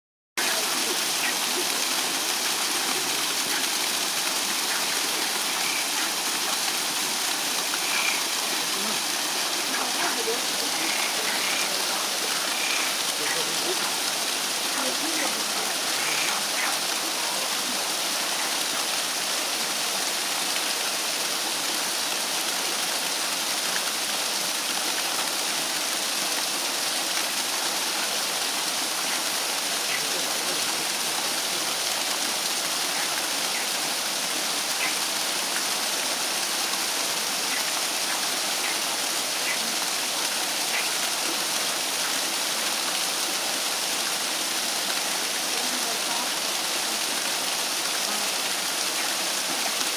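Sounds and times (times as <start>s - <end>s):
waterfall rushing and splashing: 0.4s - 49.9s.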